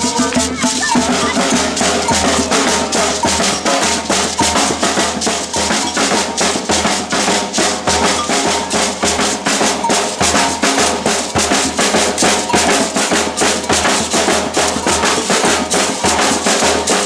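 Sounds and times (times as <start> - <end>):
samba percussion ensemble: 0.0 - 17.0.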